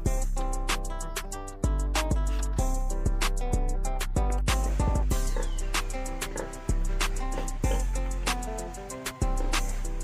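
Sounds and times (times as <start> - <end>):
plucked guitar over a beat: 0.0 - 10.0.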